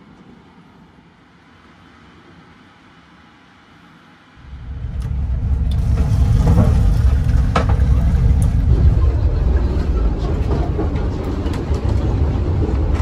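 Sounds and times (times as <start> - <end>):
passenger train rumble: 0.0 - 13.0.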